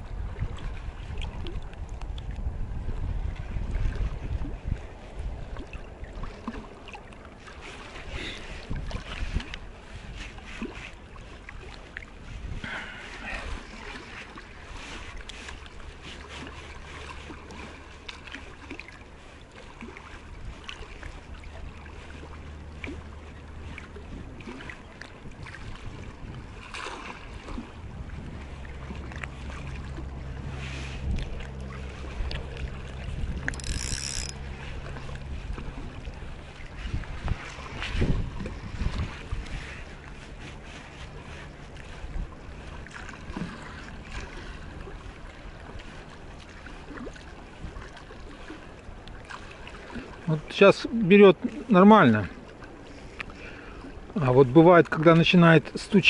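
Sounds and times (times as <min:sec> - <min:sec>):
wind on microphone: 0:00.0 - 0:06.6, 0:07.8 - 0:16.8, 0:20.2 - 0:50.1
choppy sea water: 0:00.0 - 0:56.0.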